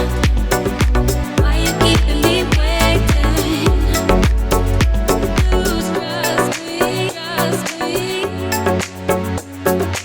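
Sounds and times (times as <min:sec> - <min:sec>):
music with heavy beat and deep bass: 0:00.0 - 0:10.0.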